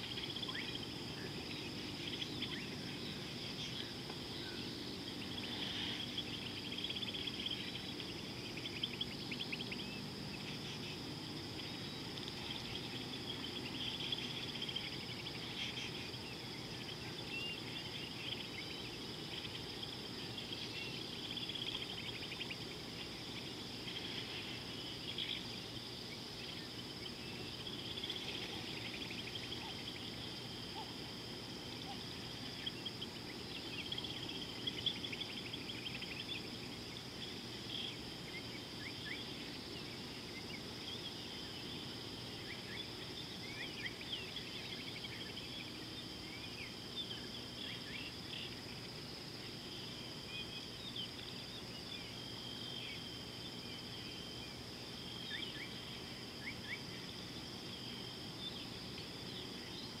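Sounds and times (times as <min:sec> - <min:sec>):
low background hiss: 0:00.0 - 1:00.0.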